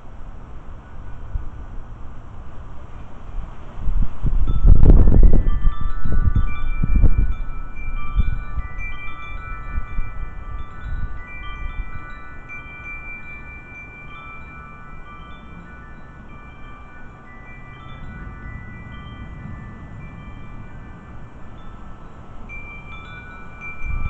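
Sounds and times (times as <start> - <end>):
wind chimes ringing: 4.4 - 24.0.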